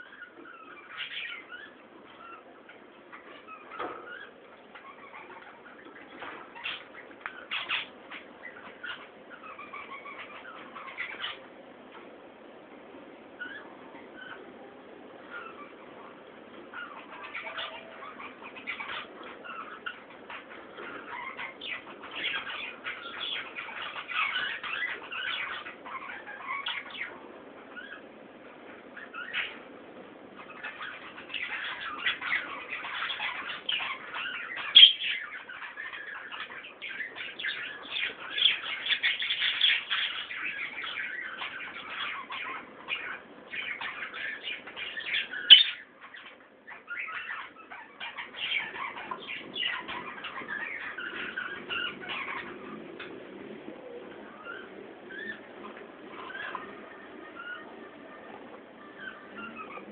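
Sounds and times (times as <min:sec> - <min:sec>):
budgerigars chattering: 0:00.0 - 0:11.6, 0:15.2 - 0:28.1, 0:28.9 - 0:29.7, 0:30.3 - 0:59.9.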